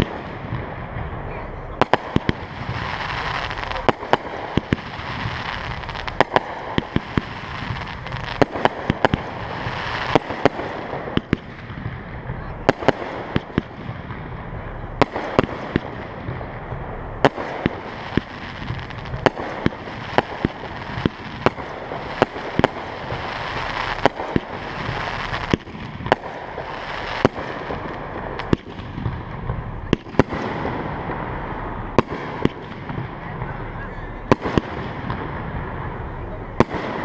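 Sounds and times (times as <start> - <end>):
fireworks bursting with sharp bangs: 0.0 - 37.0.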